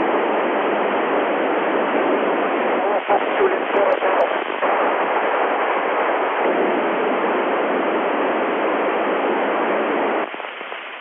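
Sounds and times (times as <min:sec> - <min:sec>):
radio receiver hiss: 0:00.0 - 0:11.0.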